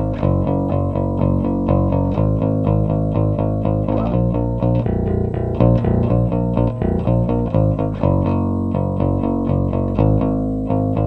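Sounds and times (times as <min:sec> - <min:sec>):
electric bass playing: 0:00.0 - 0:11.0.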